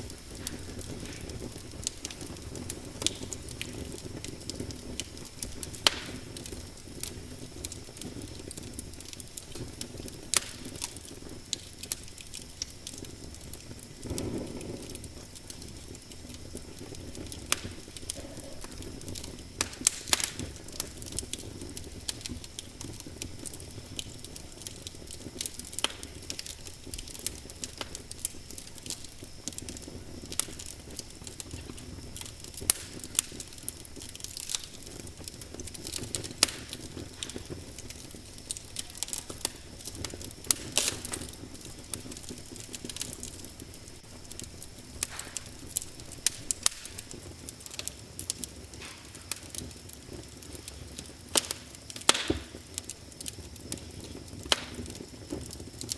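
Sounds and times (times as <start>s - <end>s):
fire pops and snaps: 0.0s - 55.9s
wood fire crackling: 0.0s - 55.9s.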